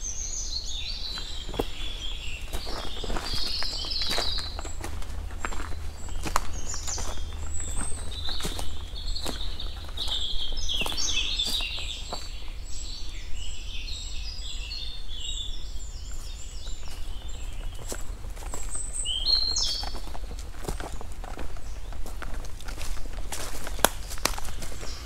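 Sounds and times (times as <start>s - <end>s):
songbird singing: 0.0s - 25.0s
footsteps: 1.1s - 12.4s, 16.1s - 25.0s.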